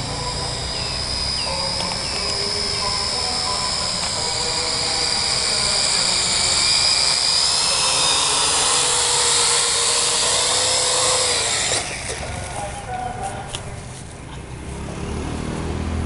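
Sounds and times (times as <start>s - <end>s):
quadcopter propellers whining: 0.0s - 13.5s.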